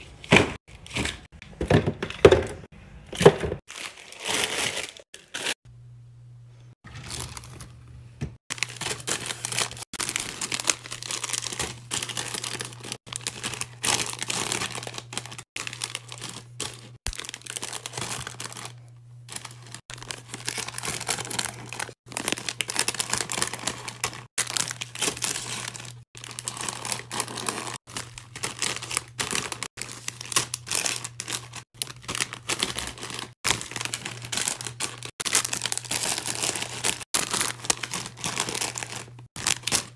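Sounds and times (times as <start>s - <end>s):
plastic bags crinkling: 3.6s - 5.6s, 6.9s - 7.8s, 8.5s - 39.9s.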